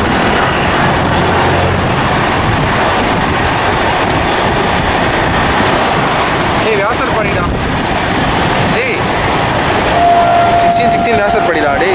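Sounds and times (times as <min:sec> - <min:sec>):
train wheel and rail noise: 0:00.0 - 0:11.9.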